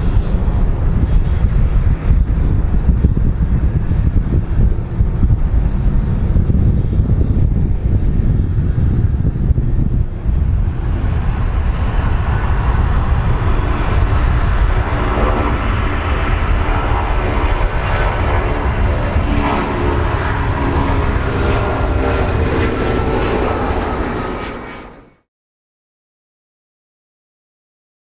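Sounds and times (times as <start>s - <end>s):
aircraft engines rumbling: 0.0s - 25.2s
rushing engine noise: 0.0s - 25.2s
steady engine whine: 0.0s - 25.3s.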